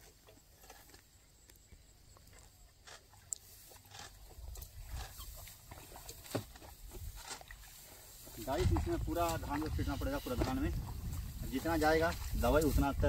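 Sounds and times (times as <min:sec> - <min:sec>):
rustling and crunching: 0:00.0 - 0:13.0.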